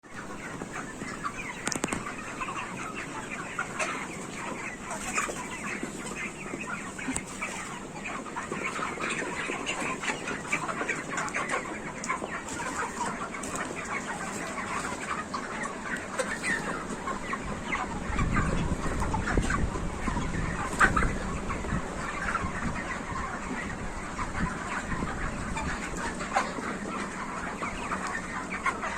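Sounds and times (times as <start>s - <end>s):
chickens clucking and chirping: 0.0s - 28.9s.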